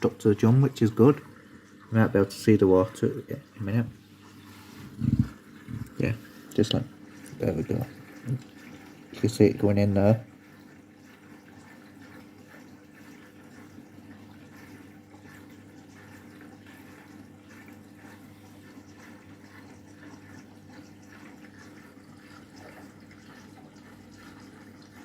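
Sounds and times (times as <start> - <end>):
low machine hum: 0.0 - 25.0
water running into washing machine: 0.0 - 25.0.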